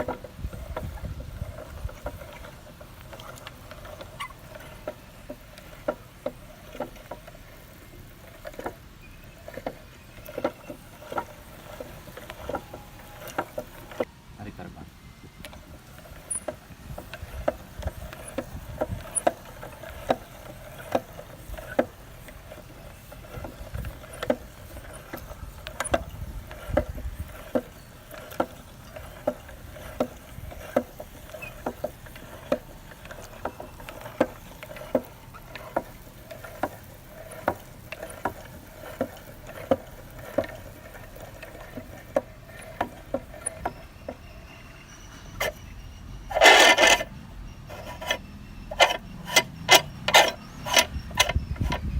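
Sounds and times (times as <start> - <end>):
meat grinder grinding: 0.0 - 14.1, 15.4 - 47.1, 47.7 - 51.9.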